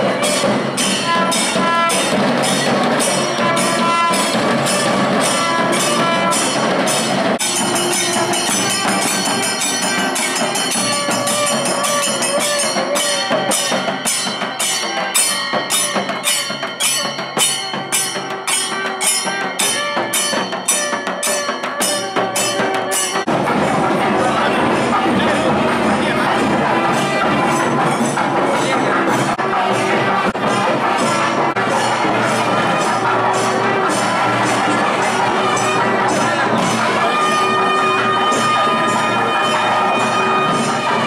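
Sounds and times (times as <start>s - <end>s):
barrel drums beating: 0.0s - 41.0s
hand cymbals: 0.0s - 41.0s
wavering wind instrument melody: 0.0s - 41.0s.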